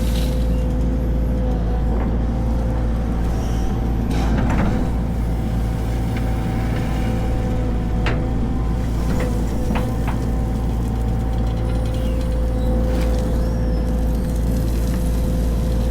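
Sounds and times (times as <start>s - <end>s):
diesel machinery engine rumble: 0.0s - 15.9s.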